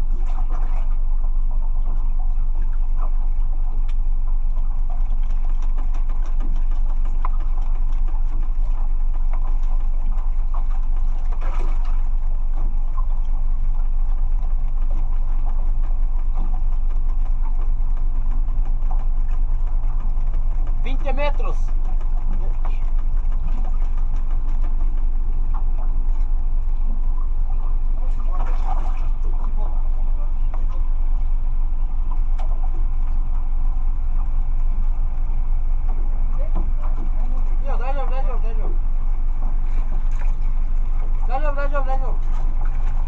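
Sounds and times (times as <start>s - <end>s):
boat engine idling: 0.0s - 43.0s.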